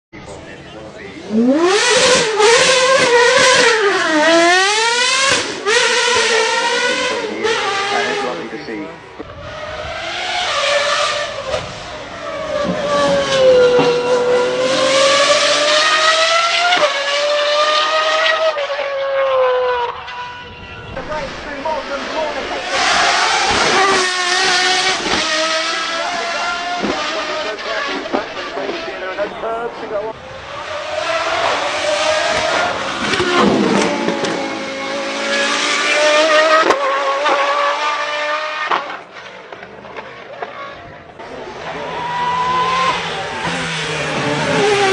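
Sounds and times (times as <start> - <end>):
car engine revving high: 1.0 - 44.9.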